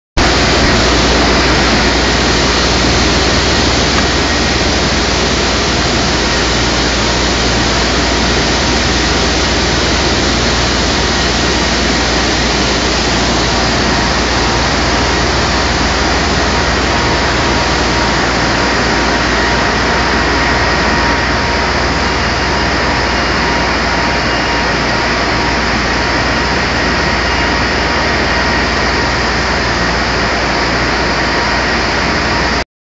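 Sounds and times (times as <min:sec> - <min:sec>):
faint steady whines: 0:00.2 - 0:32.6
industrial machinery rushing: 0:00.2 - 0:32.6.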